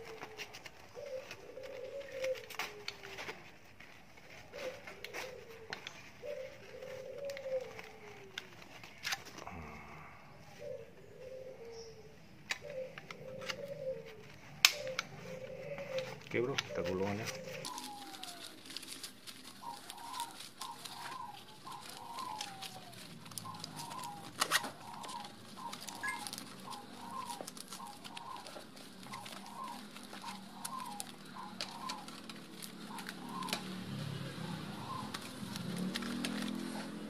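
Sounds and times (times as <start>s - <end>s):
webbing strap rustling and clicking: 0.0s - 9.5s, 12.4s - 37.0s
bird calling: 0.0s - 37.0s.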